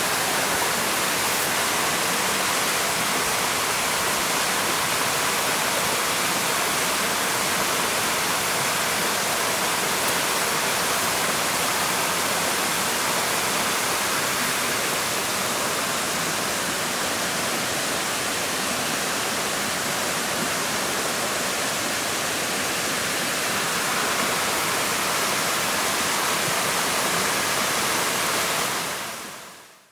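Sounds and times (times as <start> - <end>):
stream rushing: 0.0 - 29.9.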